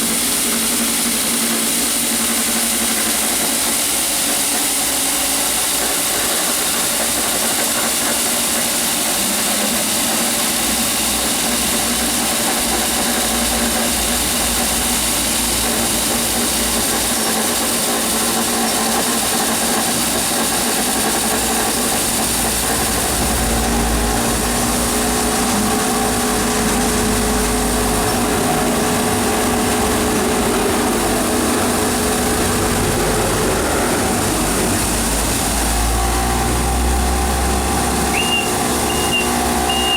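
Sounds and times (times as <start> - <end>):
floor scrubber whirring: 0.0 - 39.9.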